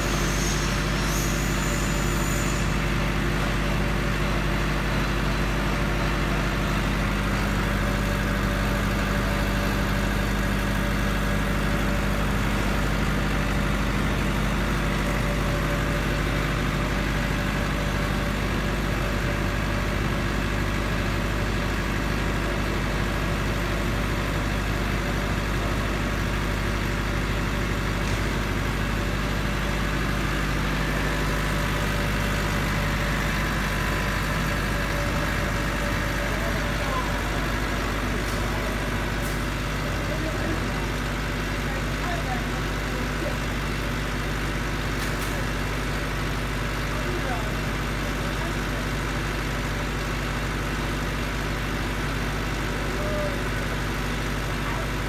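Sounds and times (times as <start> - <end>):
diesel generator running: 0.0 - 55.0.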